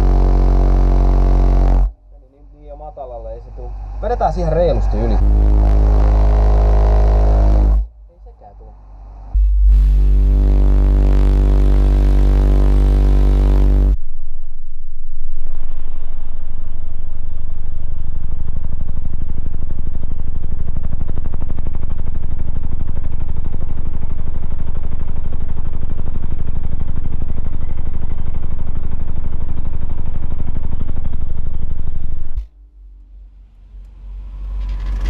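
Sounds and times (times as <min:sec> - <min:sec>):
subwoofer low bass tone: 0:00.0 - 0:35.0.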